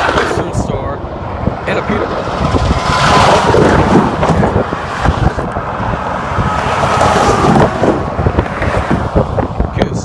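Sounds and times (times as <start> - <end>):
trucks driving past: 0.0 - 9.8
traffic engine and tyre noise: 0.0 - 10.0
wind buffeting microphone: 0.0 - 10.0.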